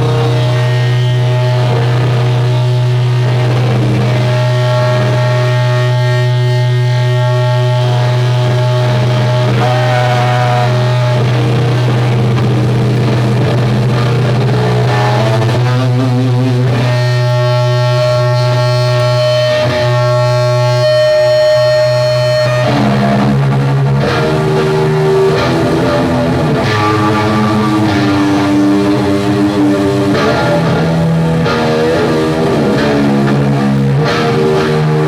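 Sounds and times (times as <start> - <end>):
distorted electric guitar: 0.0 - 35.0
low drone: 0.0 - 35.0.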